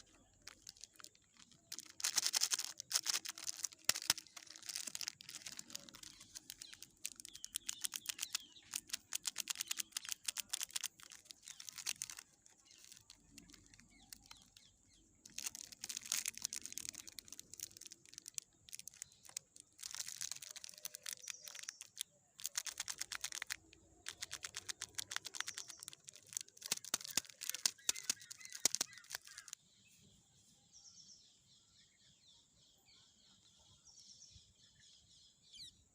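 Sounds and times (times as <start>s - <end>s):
plastic wrappers crinkling: 0.0s - 29.6s
faint bird chirping: 0.0s - 35.9s.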